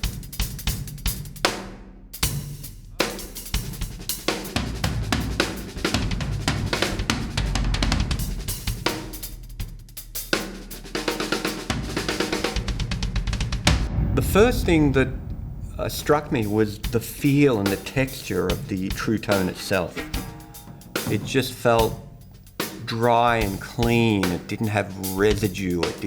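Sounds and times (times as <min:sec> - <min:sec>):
acoustic drum kit playing: 0:02.2 - 0:26.0.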